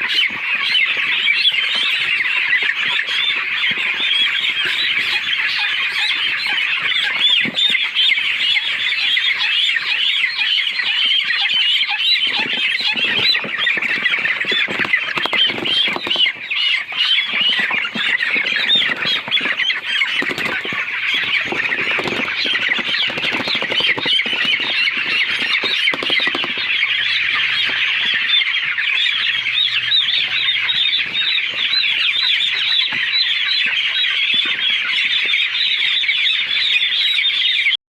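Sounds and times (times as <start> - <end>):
flock of poultry calling: 0.0 - 37.8.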